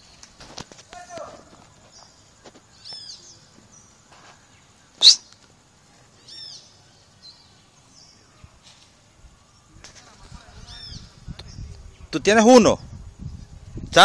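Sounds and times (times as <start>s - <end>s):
faint high hiss: 0.0s - 14.0s
bird chirping: 1.8s - 5.5s, 6.1s - 13.6s.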